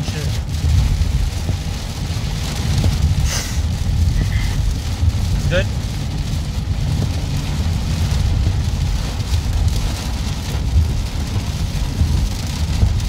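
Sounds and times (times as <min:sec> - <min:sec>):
car driving low rumble: 0:00.0 - 0:13.0
heavy rain on car roof: 0:00.0 - 0:13.0.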